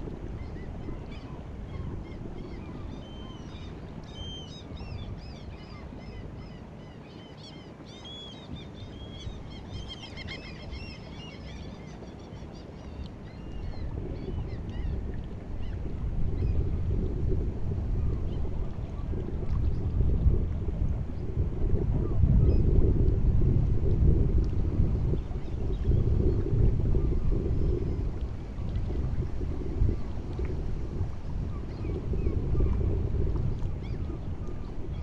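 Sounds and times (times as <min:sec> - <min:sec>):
sea at the shore: 0:00.0 - 0:35.0
wind rumble on microphone: 0:00.0 - 0:35.0.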